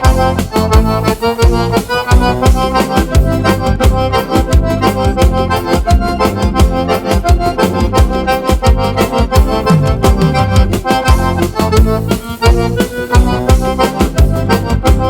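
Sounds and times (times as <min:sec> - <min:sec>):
accordion music: 0:00.0 - 0:15.0
bass: 0:00.0 - 0:15.0
steady drum beat: 0:00.0 - 0:15.0.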